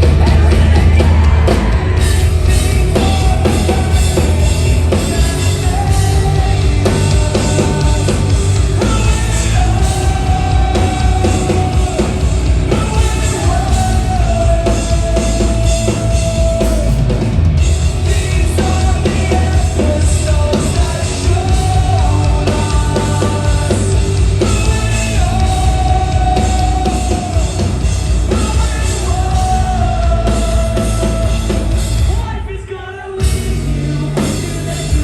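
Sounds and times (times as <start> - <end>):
distorted guitars: 0.0 - 35.0
loud rock band playing: 0.0 - 35.0
pounding drums: 0.0 - 35.0.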